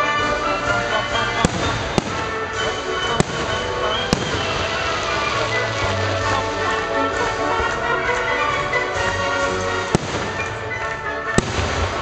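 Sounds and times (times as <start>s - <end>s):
fireworks bursting: 0.0s - 12.0s
music: 0.0s - 12.0s.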